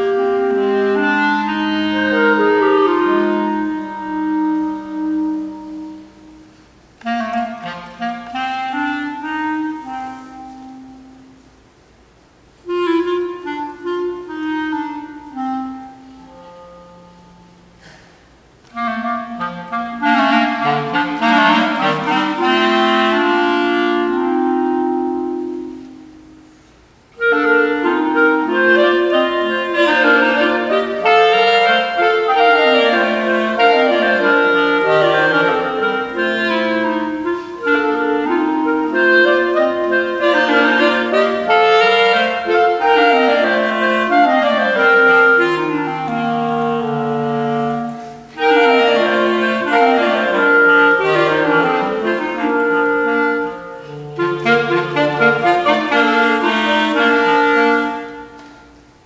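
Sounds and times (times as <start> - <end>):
clarinet trio playing: 0.0 - 59.0.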